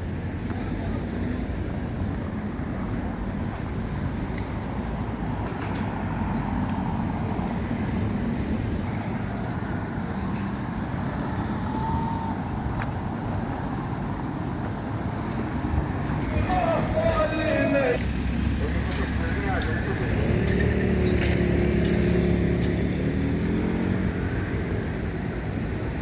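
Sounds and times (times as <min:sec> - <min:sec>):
vehicle road and engine rumble: 0:00.0 - 0:26.0.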